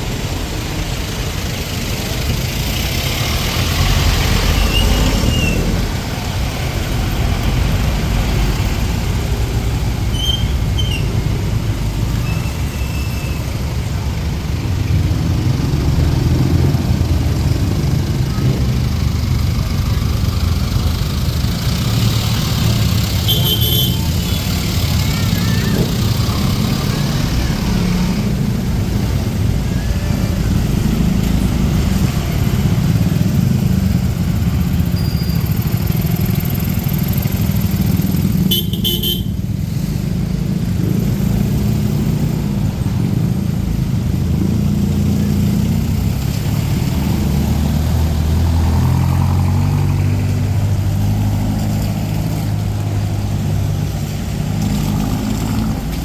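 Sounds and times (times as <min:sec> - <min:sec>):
motorcycle and car engines: 0:00.0 - 0:56.0.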